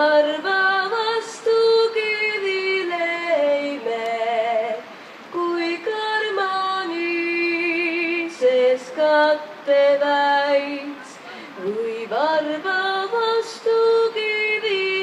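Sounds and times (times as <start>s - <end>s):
woman singing folk song: 0.0s - 15.0s.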